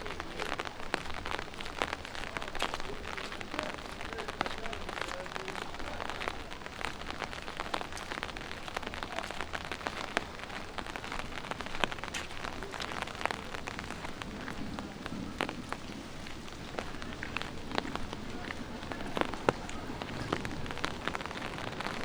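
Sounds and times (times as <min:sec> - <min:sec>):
light rain hiss: 0:00.0 - 0:22.0
raindrops ticking: 0:00.0 - 0:22.0.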